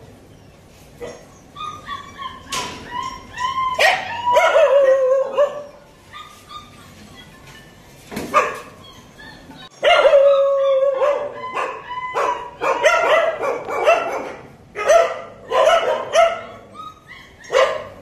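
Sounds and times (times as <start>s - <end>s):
puppies yelping and whining: 0.3s - 13.4s, 15.5s - 18.0s.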